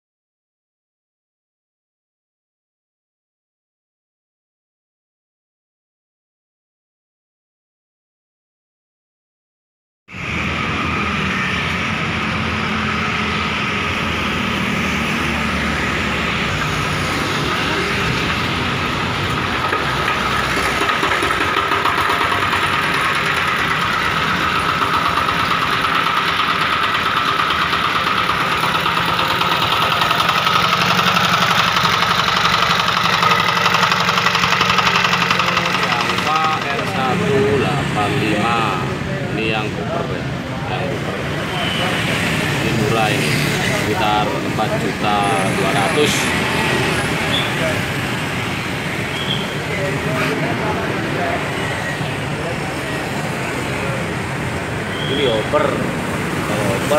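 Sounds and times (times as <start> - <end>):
diesel engine running: 10.2 - 56.9.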